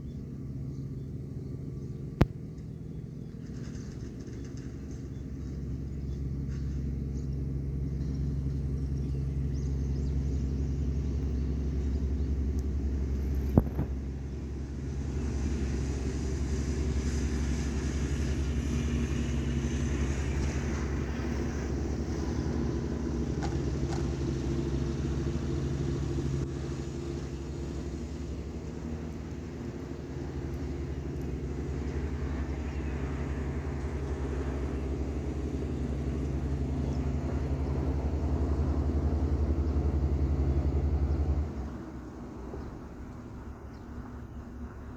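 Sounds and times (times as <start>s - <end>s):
boat engines droning: 0.0s - 44.9s.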